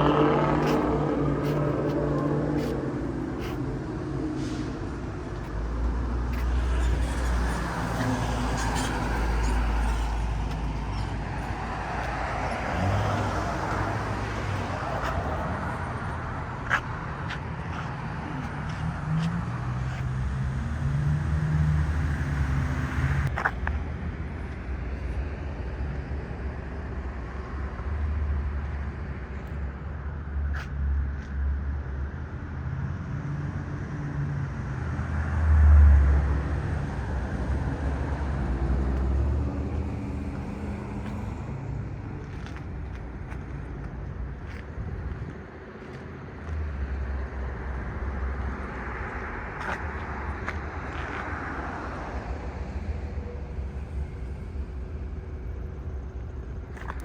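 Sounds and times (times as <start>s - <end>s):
cars driving past: 0.0s - 32.0s, 32.8s - 57.0s.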